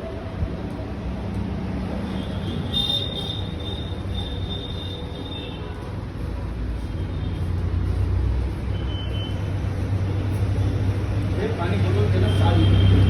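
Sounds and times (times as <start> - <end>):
road traffic noise: 0.0 - 13.0
vehicle engine rumble: 0.1 - 13.0.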